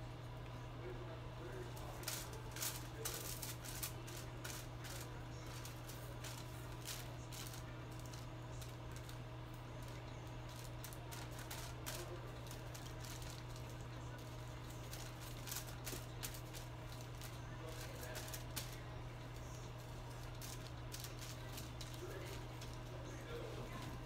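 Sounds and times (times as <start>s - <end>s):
foil crinkling: 1.6s - 24.0s.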